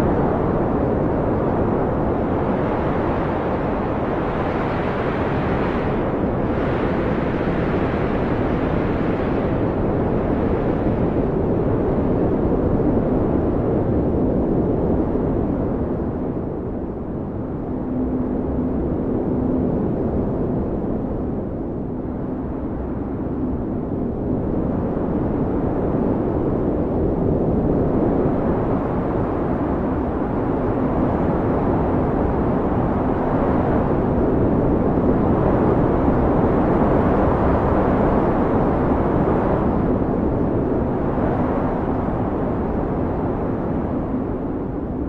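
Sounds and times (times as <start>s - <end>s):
blizzard wind gusting: 0.0s - 45.0s.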